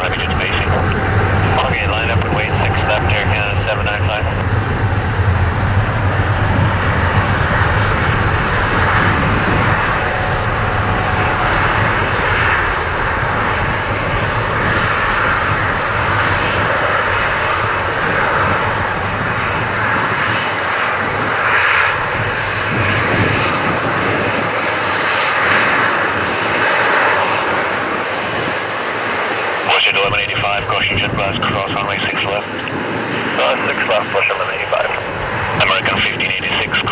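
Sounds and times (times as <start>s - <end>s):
jet engines roaring at takeoff: 0.0s - 36.9s.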